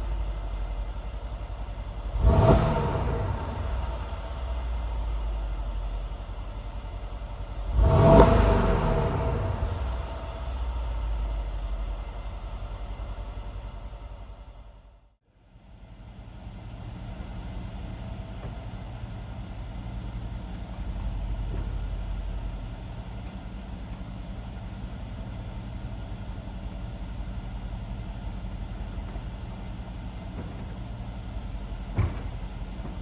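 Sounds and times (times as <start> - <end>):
car engine idling: 0.0 - 14.8, 15.9 - 33.0.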